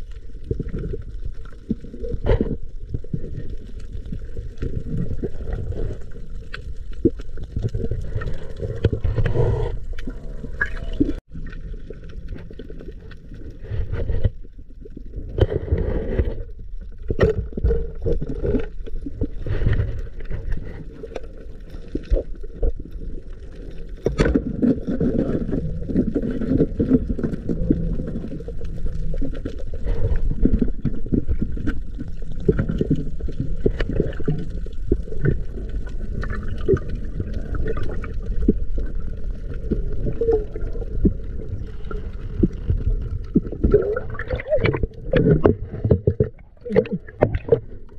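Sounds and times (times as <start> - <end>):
water gurgling and sloshing: 0.0 - 47.9.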